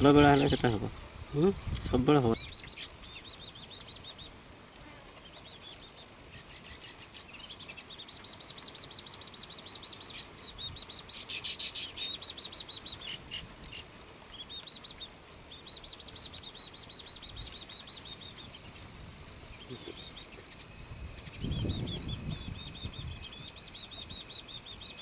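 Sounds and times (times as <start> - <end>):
birds chattering buzzy chirps: 0.0 - 25.0.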